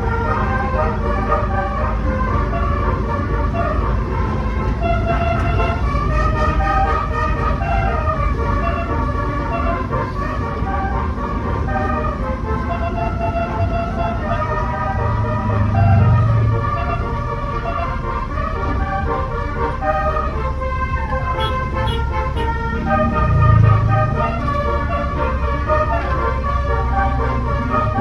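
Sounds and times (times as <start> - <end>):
multi-tone bus horn melody: 0.0 - 28.0
steady low rumble: 0.0 - 28.0.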